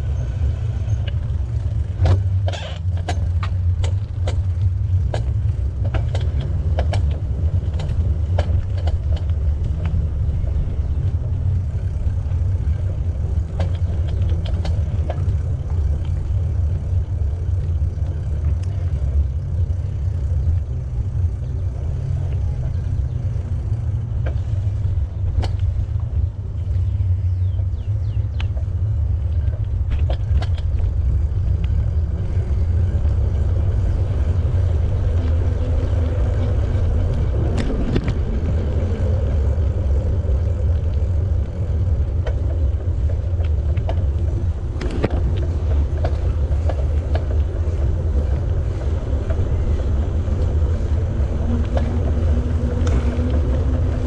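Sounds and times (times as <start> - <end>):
sharp clicks and rattles: 0.4 - 54.0
wind buffeting microphone: 3.3 - 54.0.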